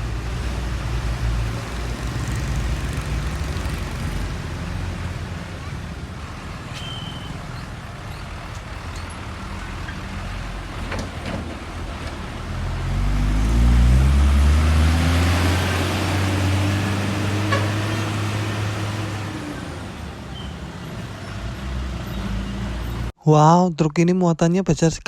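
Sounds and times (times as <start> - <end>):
heavy truck passing: 0.0 - 23.1
traffic: 0.0 - 23.2.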